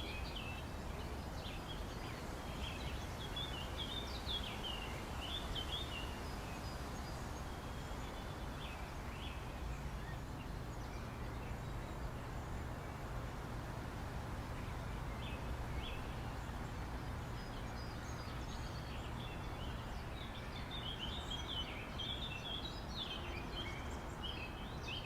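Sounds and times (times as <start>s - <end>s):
small birds chirping: 0.0s - 13.3s, 14.6s - 25.0s
low background noise: 0.0s - 25.0s.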